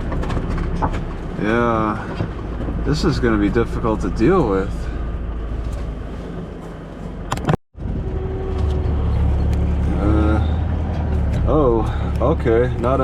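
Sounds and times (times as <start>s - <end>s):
low hum: 0.0s - 12.9s
car engine and road noise: 0.0s - 13.0s.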